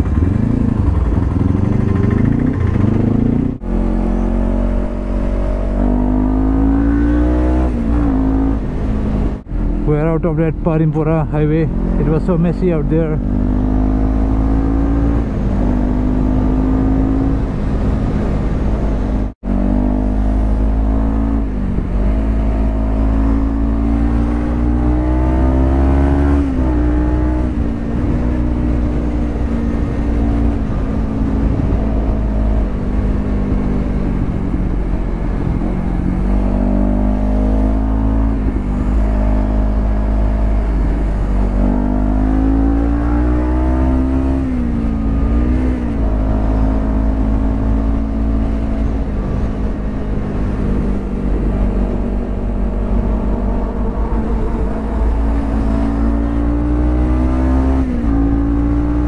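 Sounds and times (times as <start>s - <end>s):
motorcycle engine revving: 0.0s - 9.9s, 11.6s - 59.0s
low wind rumble: 0.0s - 59.0s.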